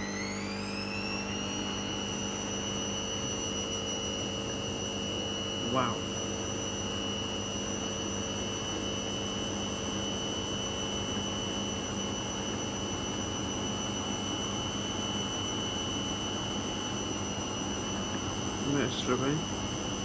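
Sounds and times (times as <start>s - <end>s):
washing machine spin cycle whir: 0.0s - 20.0s.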